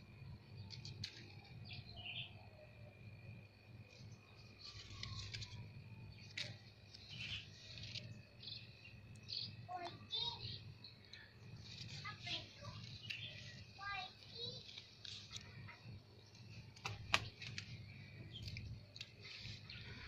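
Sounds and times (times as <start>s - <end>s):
small birds chirping: 0.5s - 20.0s.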